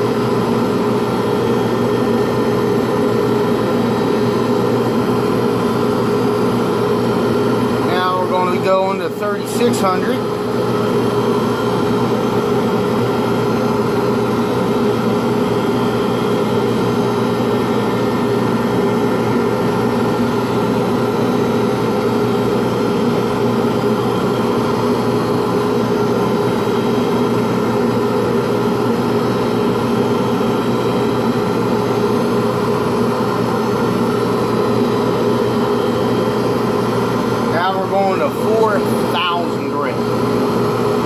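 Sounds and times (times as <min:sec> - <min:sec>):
lathe motor humming: 0:00.0 - 0:41.0.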